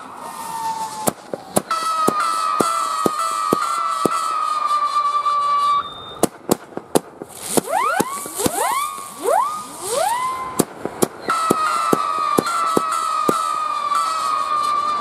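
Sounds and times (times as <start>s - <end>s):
firework cracks: 0.0s - 5.4s, 6.2s - 14.5s
firework whistles: 0.0s - 15.0s.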